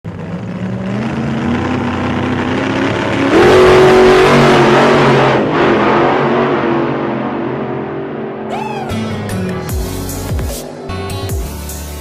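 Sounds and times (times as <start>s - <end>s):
engine revving: 0.1s - 10.3s.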